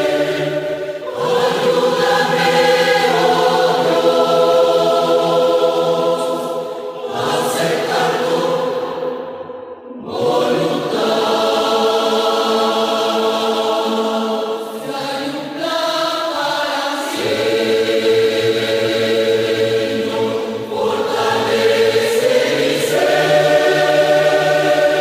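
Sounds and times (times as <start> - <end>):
church choir singing: 0.0 - 25.0.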